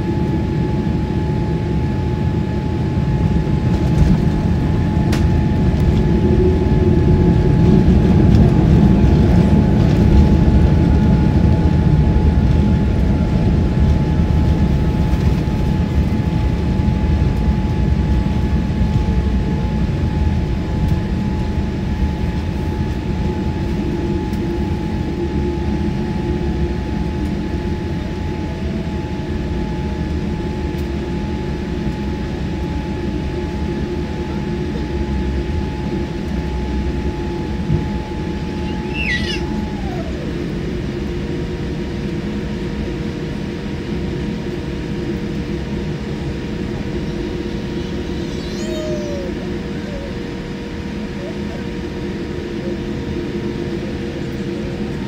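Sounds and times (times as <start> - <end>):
airliner engine and wheel rumble: 0.0 - 55.0.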